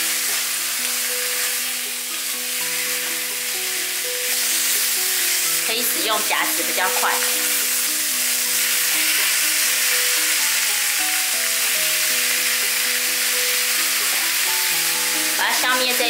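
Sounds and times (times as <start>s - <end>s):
meat sizzling in a pan: 0.0s - 16.0s
music of held notes: 0.0s - 16.0s.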